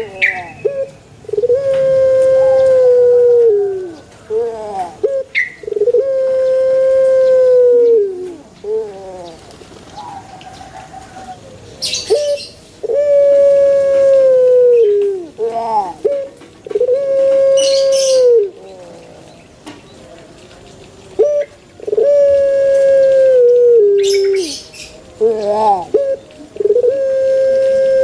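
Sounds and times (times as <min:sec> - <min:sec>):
dove cooing: 0:00.0 - 0:19.5, 0:21.0 - 0:28.0.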